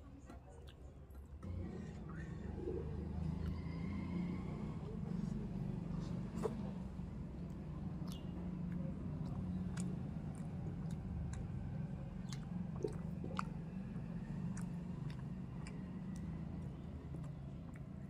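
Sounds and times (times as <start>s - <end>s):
chewing with wet mouth clicks: 0.1s - 3.9s, 5.0s - 18.0s
steady low hum: 1.2s - 18.0s.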